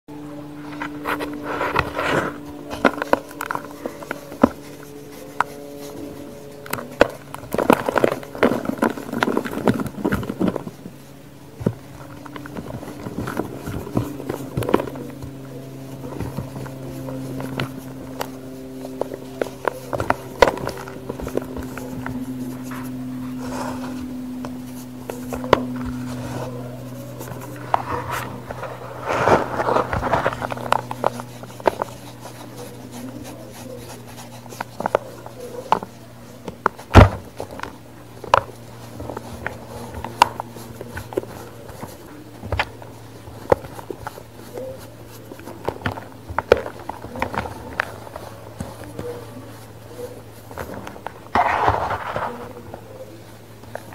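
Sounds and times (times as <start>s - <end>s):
steady low hum: 0.1s - 53.9s.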